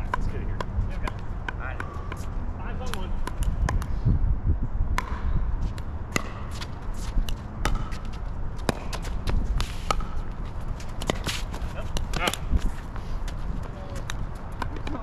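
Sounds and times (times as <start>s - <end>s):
paddles hitting plastic ball: 0.0s - 3.9s, 5.8s - 15.0s
wind rumble on microphone: 0.0s - 15.0s.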